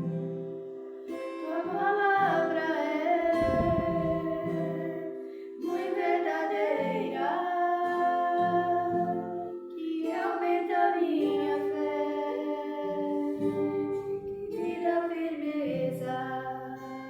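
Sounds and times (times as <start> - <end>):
acoustic guitar: 0.0 - 17.0
women singing a hymn: 0.0 - 17.0.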